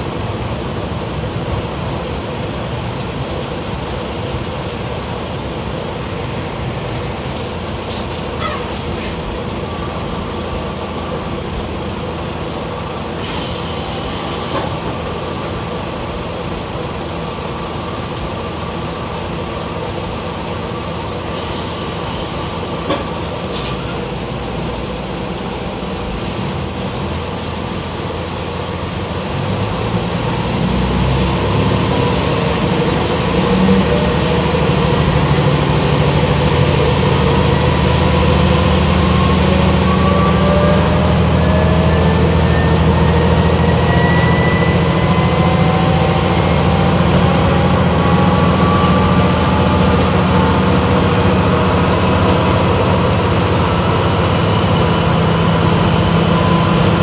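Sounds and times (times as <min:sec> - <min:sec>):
diesel railcar engine: 0:00.0 - 0:57.0
transmission whine: 0:00.0 - 0:57.0.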